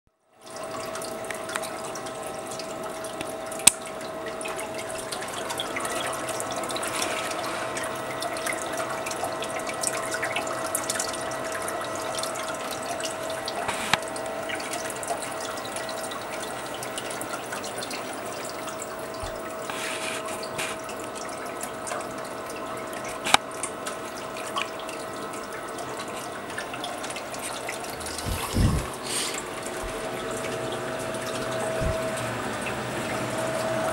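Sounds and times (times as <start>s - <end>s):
water splashing and trickling: 0.4s - 33.9s
water pump whining: 0.5s - 33.9s.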